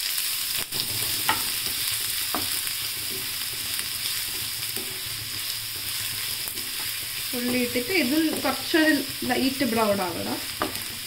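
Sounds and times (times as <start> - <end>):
onion sizzling in hot oil: 0.0 - 11.0
spatula stirring and scraping: 0.6 - 11.0
spatula knocking pan: 0.7 - 11.0.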